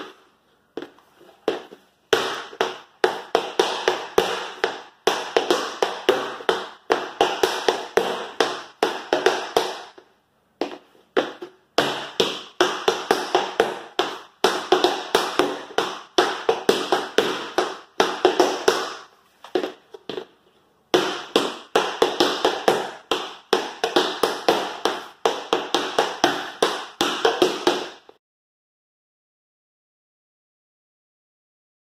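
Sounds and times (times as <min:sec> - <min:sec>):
tap shoes on wooden floor: 0:00.8 - 0:28.2.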